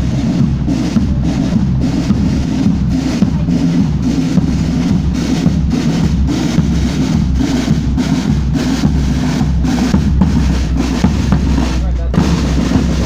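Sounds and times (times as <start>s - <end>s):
bass drum: 0.0s - 13.0s
snare drums: 0.0s - 13.0s.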